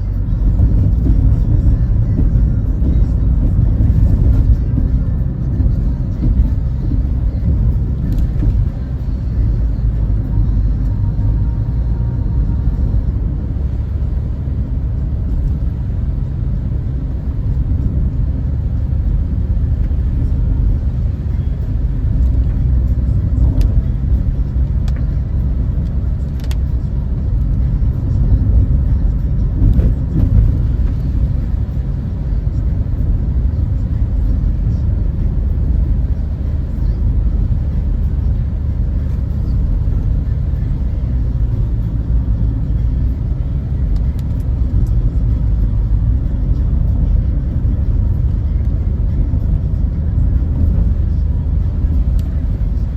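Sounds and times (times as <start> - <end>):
car interior rumble: 0.0 - 52.9.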